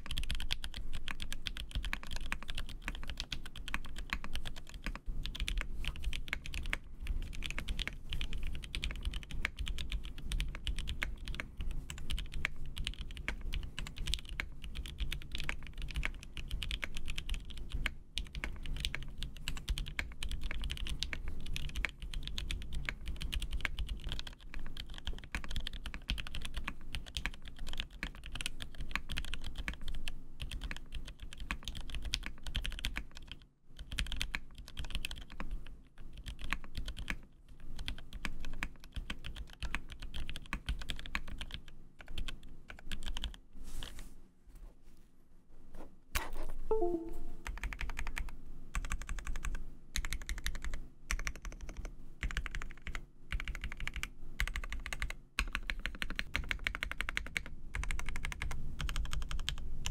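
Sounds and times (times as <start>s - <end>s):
fast typing on mechanical keyboard: 0.0s - 43.4s, 47.4s - 59.9s.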